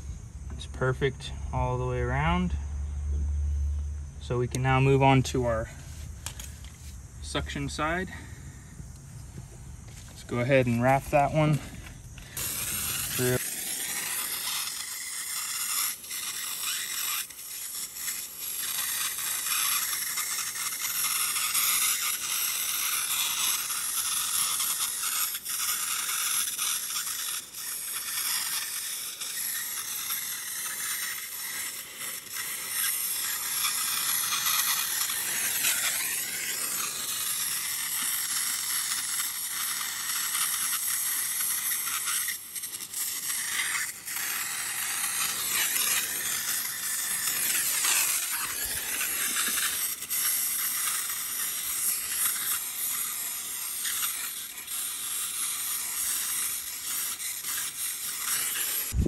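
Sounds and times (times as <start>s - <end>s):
torch flame hissing: 4.4s - 59.0s.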